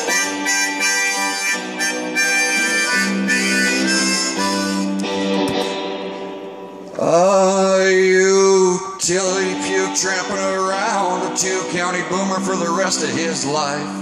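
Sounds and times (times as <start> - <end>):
harmonica playing chords: 0.0 - 14.0.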